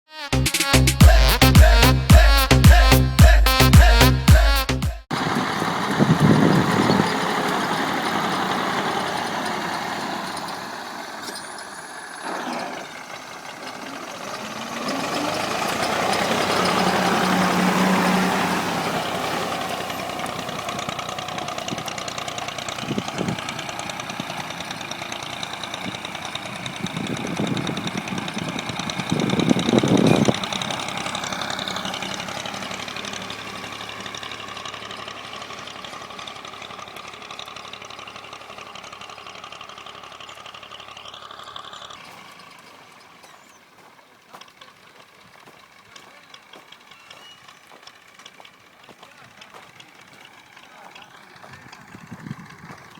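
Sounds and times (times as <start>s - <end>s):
tractor diesel engine under load: 0.3s - 52.9s.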